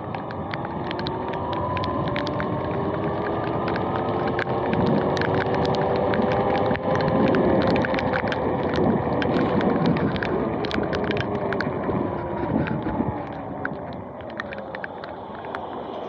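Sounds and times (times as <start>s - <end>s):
raindrops ticking on camera: 0.0s - 16.0s
rushing wind: 0.0s - 16.0s.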